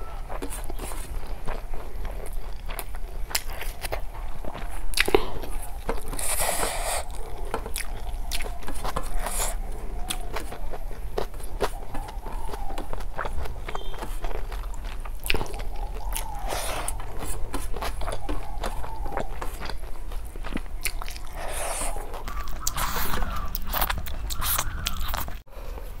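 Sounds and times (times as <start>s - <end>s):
person chewing food: 0.0s - 26.0s
wet mouth noises: 0.3s - 25.4s.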